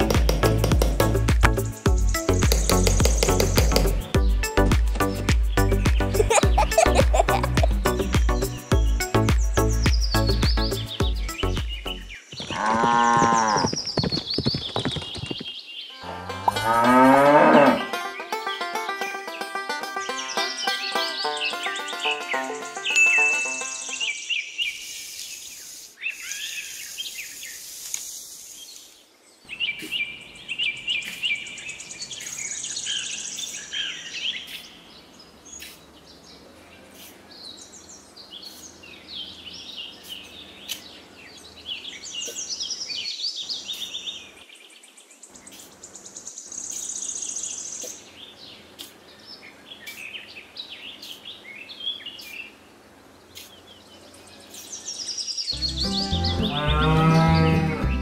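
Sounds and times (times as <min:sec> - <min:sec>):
small birds chirping: 0:00.0 - 0:16.2, 0:18.0 - 0:58.0.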